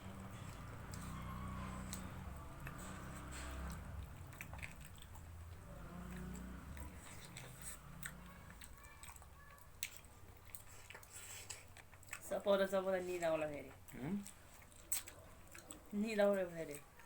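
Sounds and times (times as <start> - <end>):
wet chewing and mouth clicks: 0.0 - 17.0.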